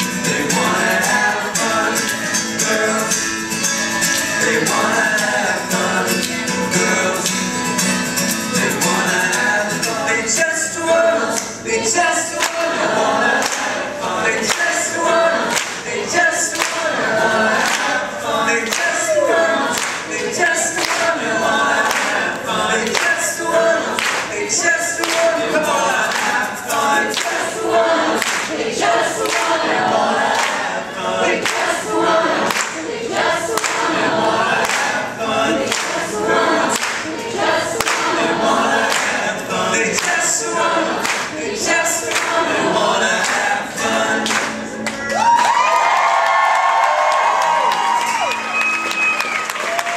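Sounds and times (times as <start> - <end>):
men singing in harmony: 0.0 - 44.8
strummed acoustic guitars: 0.0 - 45.2.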